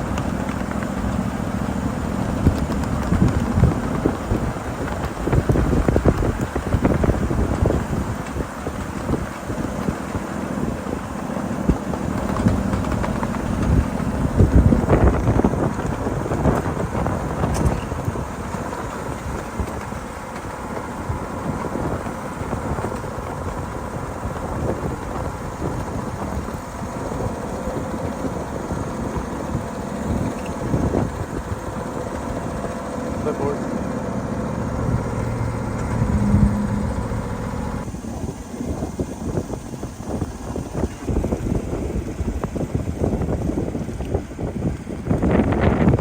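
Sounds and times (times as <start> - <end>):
miniature train rolling on track: 0.0 - 46.0
wheels clicking over rails: 0.0 - 46.0
wind buffeting microphone: 0.0 - 46.0.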